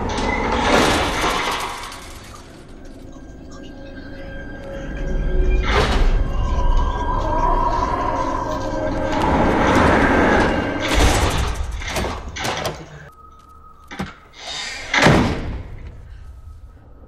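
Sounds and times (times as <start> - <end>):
horror film soundtrack: 0.0 - 17.0.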